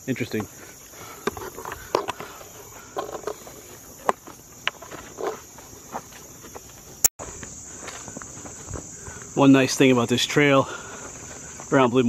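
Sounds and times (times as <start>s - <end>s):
footsteps on dirt trail: 0.0s - 12.0s
insects chirring: 0.0s - 12.0s.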